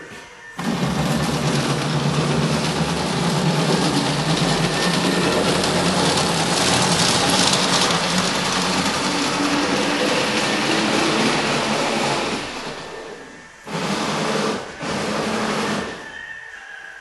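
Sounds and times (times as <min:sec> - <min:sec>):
model tram running on track: 0:00.5 - 0:16.5.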